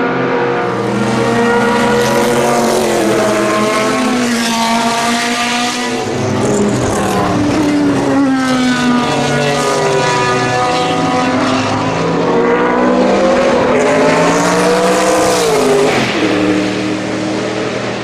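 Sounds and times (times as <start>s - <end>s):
race car passing: 0.0s - 18.0s.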